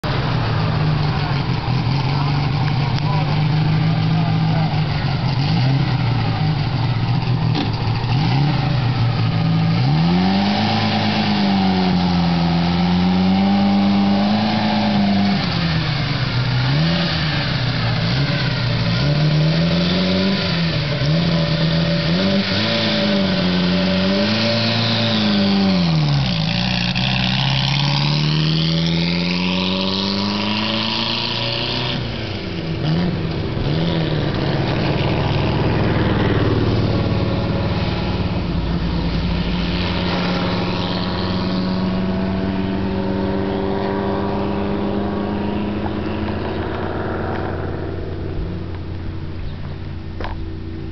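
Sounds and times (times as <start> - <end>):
car engine accelerating through gears: 0.0 - 50.9.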